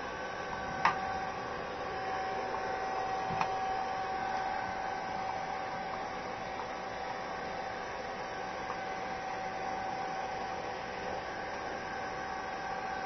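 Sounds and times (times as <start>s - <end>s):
hair dryer whining: 0.0s - 13.0s.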